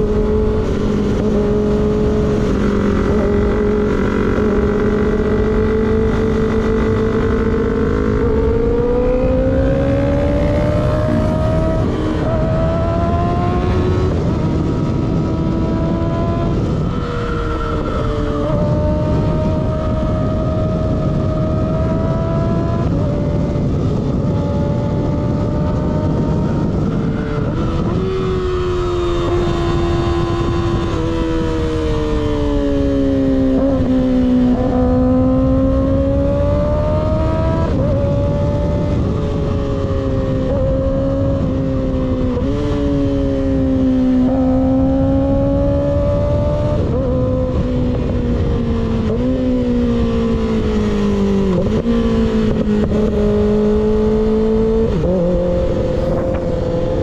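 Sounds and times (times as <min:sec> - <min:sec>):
low wind rush: 0:00.0 - 0:57.0
motorcycle engine revving: 0:00.0 - 0:57.0.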